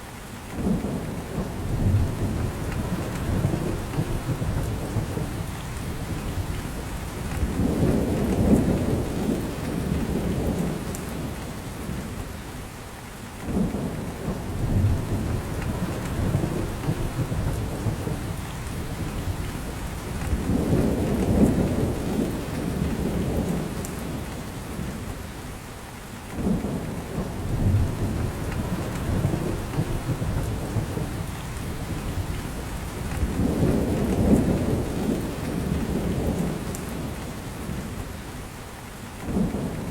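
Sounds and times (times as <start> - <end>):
steady rain on a forest: 0.0 - 39.9.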